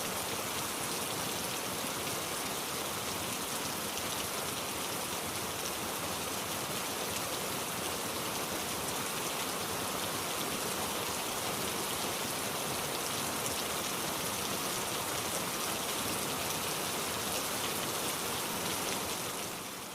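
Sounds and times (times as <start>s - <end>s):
steady rain: 0.0s - 19.9s.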